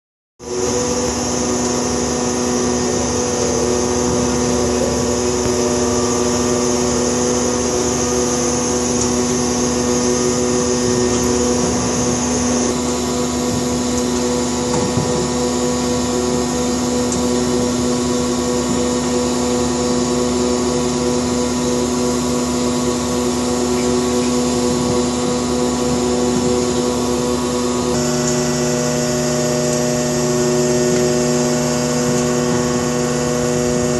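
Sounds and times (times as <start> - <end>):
ship machinery droning: 0.4 - 33.9.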